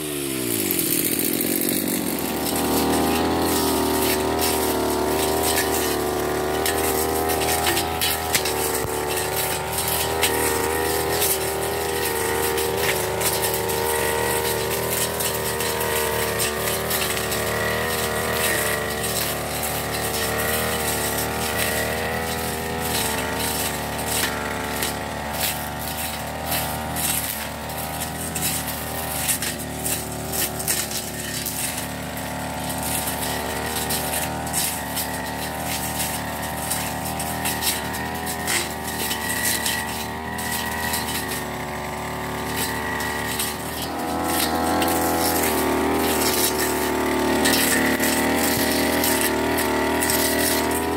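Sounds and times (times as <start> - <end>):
brush cutter engine running: 0.0 - 50.9.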